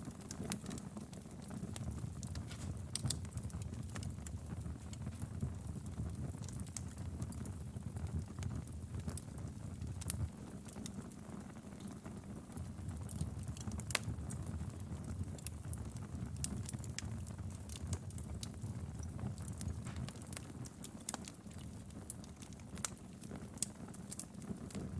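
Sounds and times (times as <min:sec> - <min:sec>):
fire crackling and popping: 0:00.0 - 0:24.9
low rumble of flames: 0:00.2 - 0:24.9.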